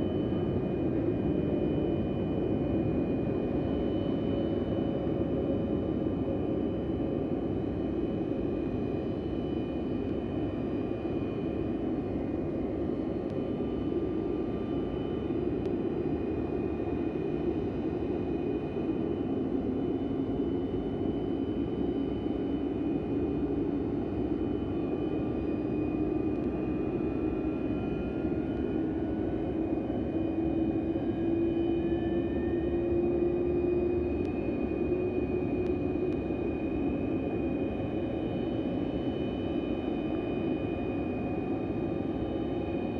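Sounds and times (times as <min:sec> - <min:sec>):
jet engines roaring and whining: 0:00.0 - 0:42.9.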